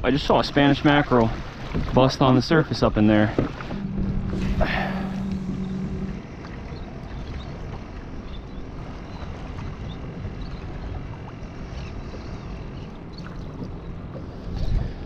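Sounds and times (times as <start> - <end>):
low rumble of wind: 0.0 - 15.0
water lapping against kayak hull: 0.0 - 15.0.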